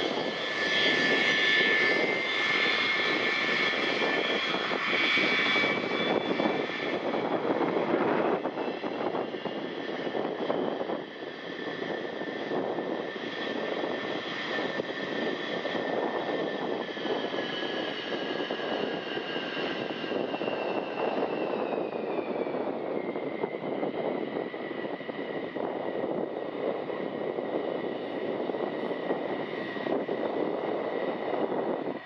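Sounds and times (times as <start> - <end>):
jet engines with high whine: 0.0 - 32.0.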